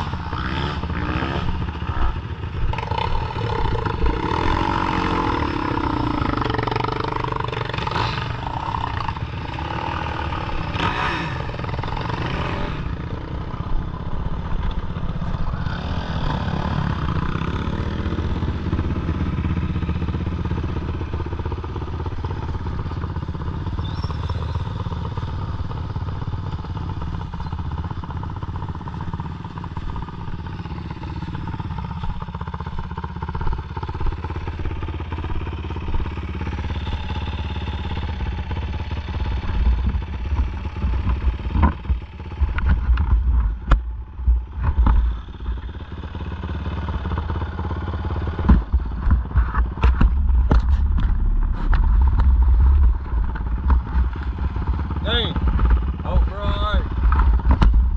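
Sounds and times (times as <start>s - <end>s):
quad bike engine idling: 0.0s - 57.9s.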